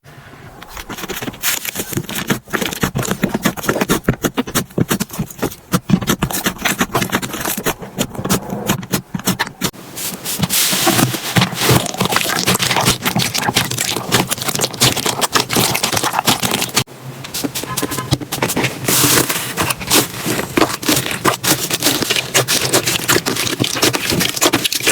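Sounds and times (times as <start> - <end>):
slime clicking and crackling: 0.6 - 9.7, 10.8 - 16.9, 17.8 - 24.9.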